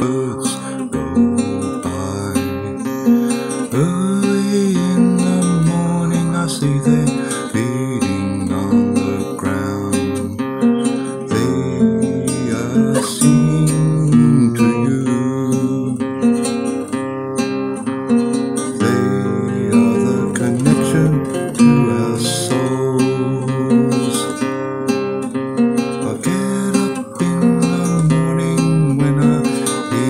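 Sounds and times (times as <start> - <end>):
strummed acoustic guitar music: 0.0 - 30.0.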